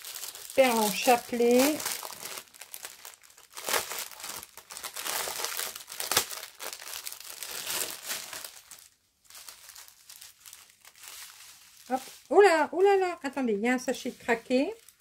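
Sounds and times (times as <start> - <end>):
thin plastic crinkling: 0.0 - 15.0.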